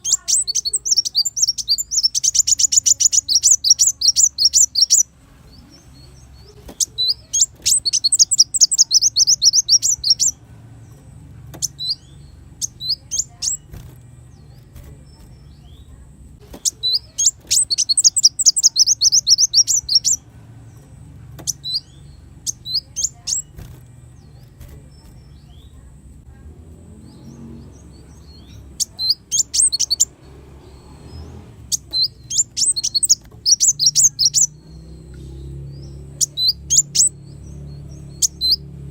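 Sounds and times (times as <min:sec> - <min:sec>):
bird high-pitched twittering trills: 0:00.0 - 0:25.9, 0:27.0 - 0:38.9
faint low hum: 0:00.0 - 0:38.9.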